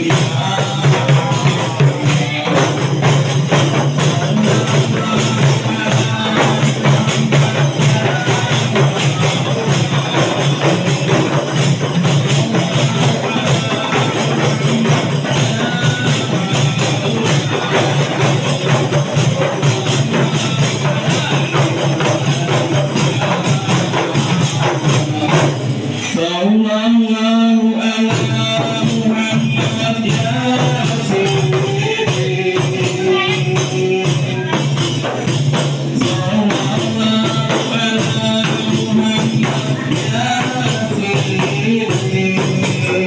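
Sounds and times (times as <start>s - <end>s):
frame drums beating: 0.0s - 26.3s, 27.8s - 43.0s.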